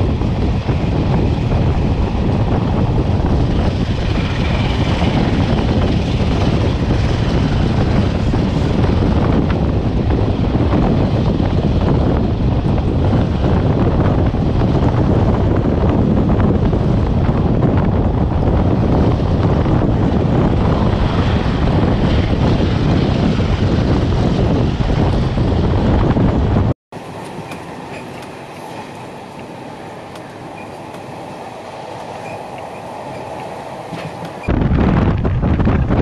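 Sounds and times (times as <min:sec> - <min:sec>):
train carriage running on rails: 0:00.0 - 0:36.0
wind buffeting microphone: 0:00.0 - 0:36.0.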